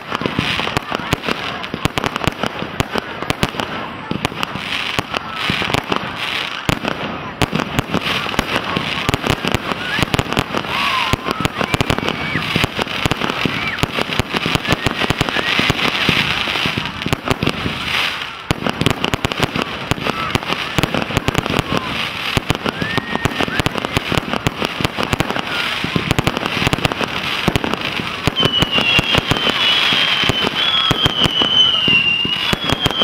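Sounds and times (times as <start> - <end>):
fireworks crackling and popping: 0.0 - 33.0.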